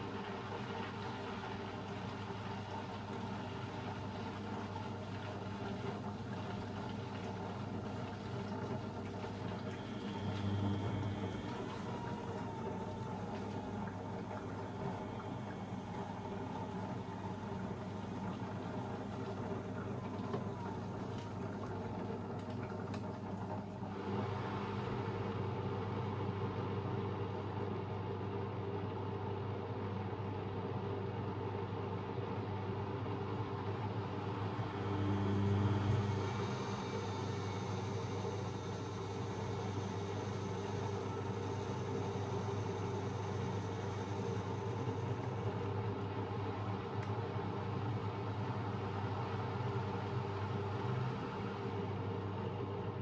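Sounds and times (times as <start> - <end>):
washing machine motor humming: 0.0 - 53.0.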